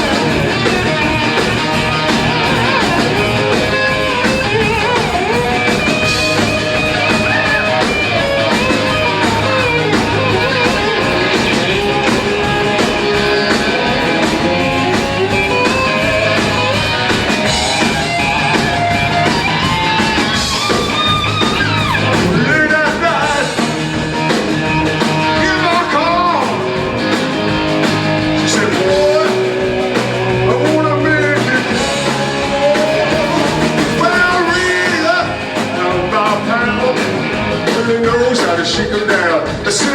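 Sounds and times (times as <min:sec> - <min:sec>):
bass guitar: 0:00.0 - 0:39.9
drums: 0:00.0 - 0:39.9
electric guitar: 0:00.0 - 0:39.9.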